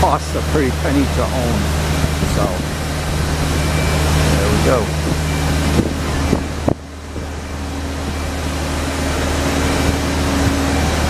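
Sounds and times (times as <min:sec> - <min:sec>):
traffic hum: 0:00.0 - 0:11.0
wind on microphone: 0:01.6 - 0:11.0.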